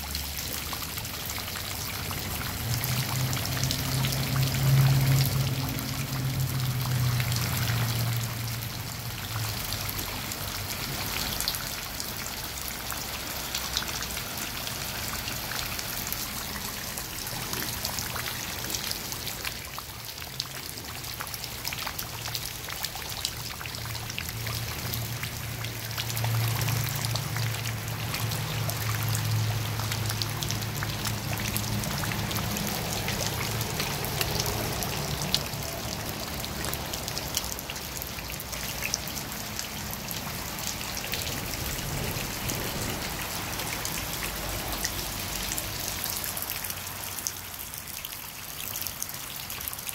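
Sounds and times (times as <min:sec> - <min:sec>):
rain falling into a puddle: 0:00.0 - 0:49.9.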